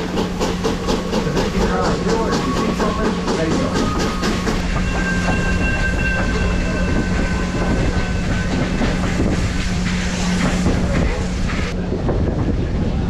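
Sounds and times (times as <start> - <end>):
train wheels clattering on rails: 0.0 - 12.5
high whine from wheels: 0.0 - 13.0.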